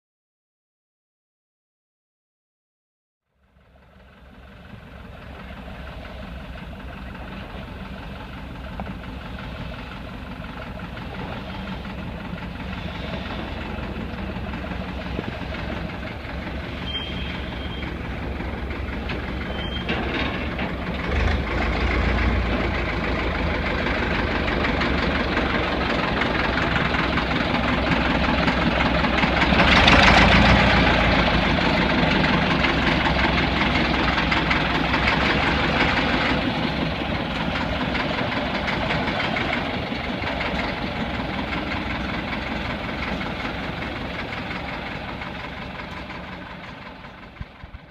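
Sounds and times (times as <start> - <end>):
locomotive diesel engine running: 3.3 - 47.9.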